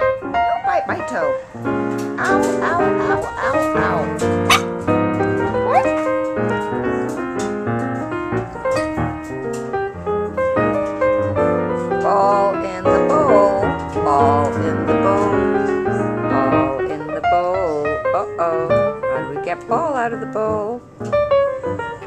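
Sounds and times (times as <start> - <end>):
piano background music: 0.0 - 22.0.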